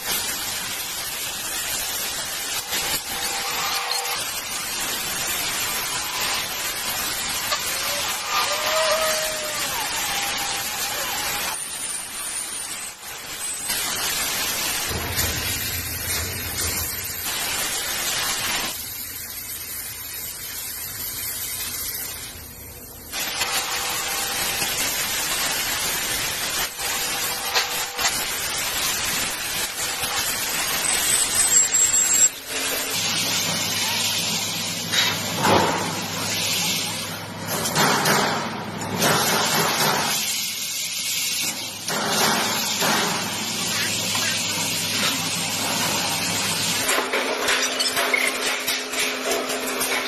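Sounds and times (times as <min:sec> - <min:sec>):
welding arc crackling and hissing: 0:00.0 - 0:50.0.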